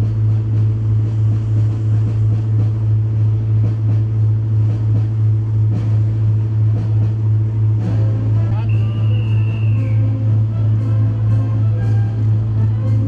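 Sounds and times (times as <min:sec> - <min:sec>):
ship engine droning: 0:00.0 - 0:13.0.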